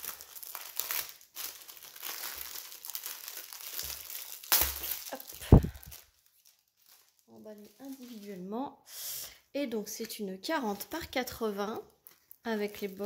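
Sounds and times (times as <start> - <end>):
plastic wrapping crinkling: 0.0 - 8.6, 9.8 - 13.0.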